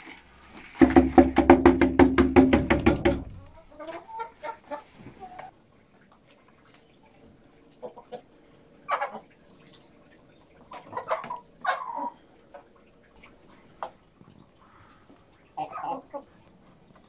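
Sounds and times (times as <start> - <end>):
hens clucking: 3.2 - 17.0.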